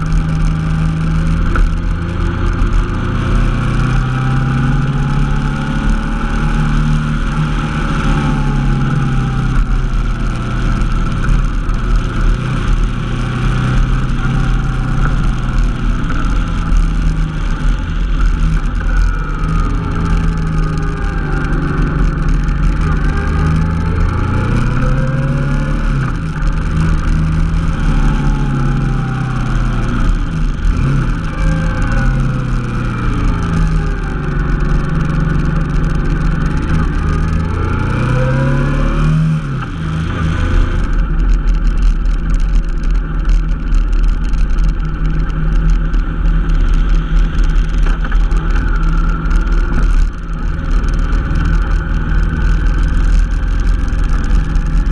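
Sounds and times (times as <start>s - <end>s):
low wind rumble: 0.0s - 54.9s
motorcycle engine under way: 0.0s - 54.9s.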